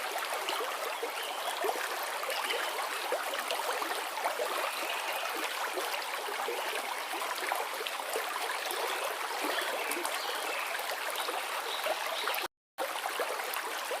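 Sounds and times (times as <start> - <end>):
river flowing and gurgling: 0.0 - 14.0.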